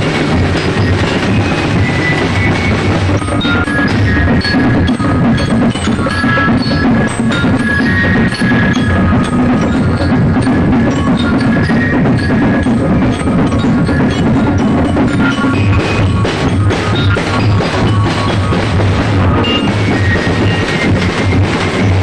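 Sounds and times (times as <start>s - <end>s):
drums: 0.0s - 22.0s.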